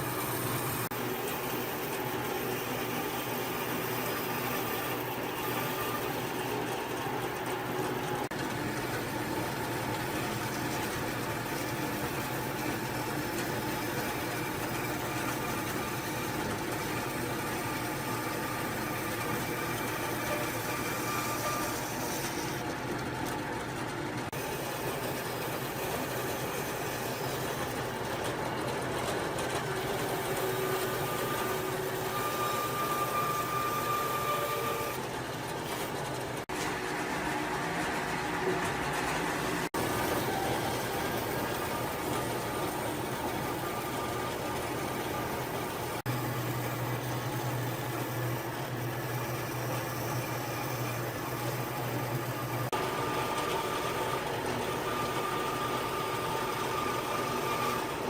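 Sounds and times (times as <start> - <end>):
workshop machine running: 0.0 - 58.0.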